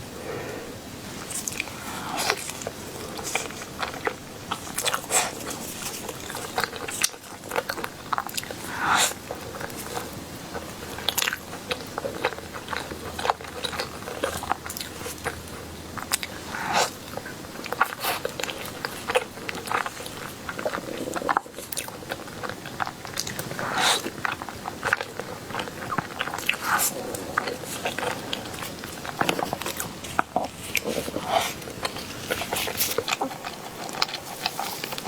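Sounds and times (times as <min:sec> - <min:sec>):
person chewing crunchy food: 0:00.2 - 0:35.0.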